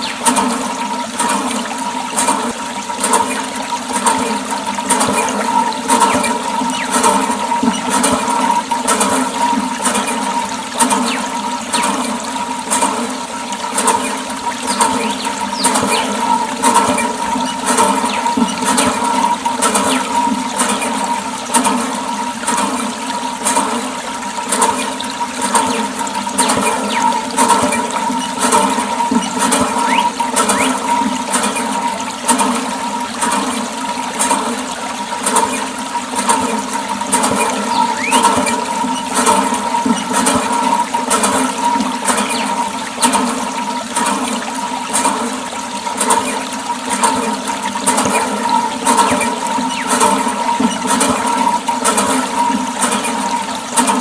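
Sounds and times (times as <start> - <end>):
water gushing and splashing: 0.0 - 54.0.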